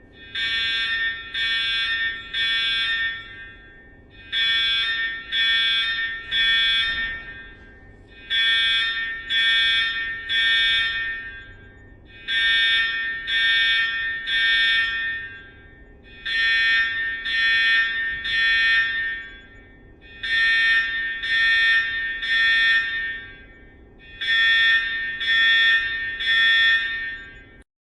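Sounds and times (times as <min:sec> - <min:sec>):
fire alarm horn pulsing: 0:00.0 - 0:27.6.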